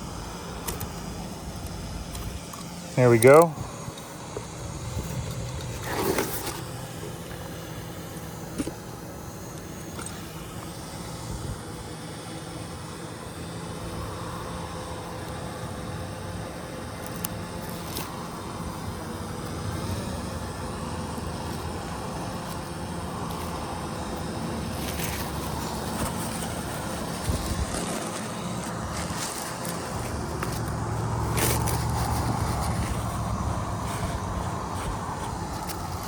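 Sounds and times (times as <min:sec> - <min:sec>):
low outdoor rumble: 0:00.0 - 0:12.3, 0:13.1 - 0:36.0
faint steady hum: 0:00.0 - 0:36.0.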